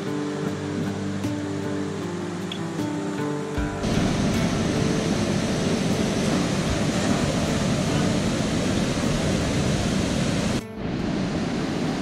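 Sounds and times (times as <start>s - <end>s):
whitewater rushing over falls: 0.0s - 12.0s.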